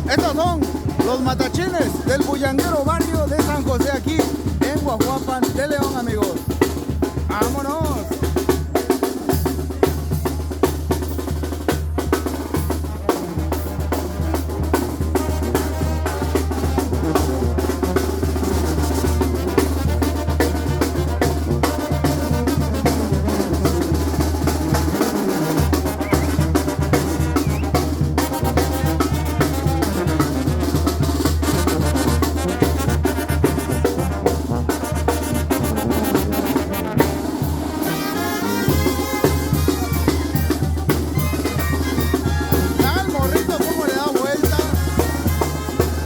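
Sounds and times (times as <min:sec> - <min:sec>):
brass band playing dance tune: 0:00.0 - 0:46.0
snare and bass drum: 0:00.0 - 0:46.0.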